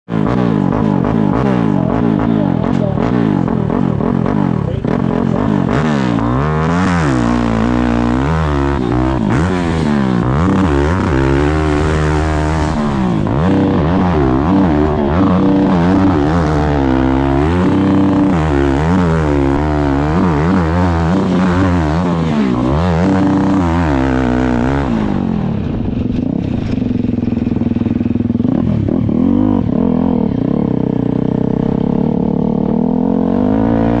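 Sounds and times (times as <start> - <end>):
dirt bike engine revving: 0.1 - 34.0.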